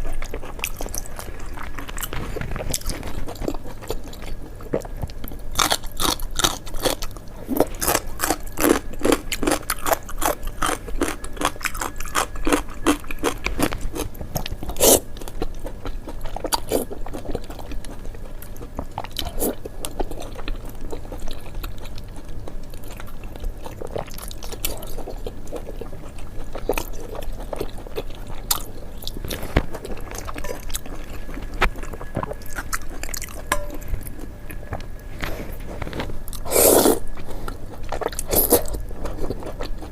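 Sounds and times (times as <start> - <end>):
person chewing crunchy bread: 0.0 - 39.9.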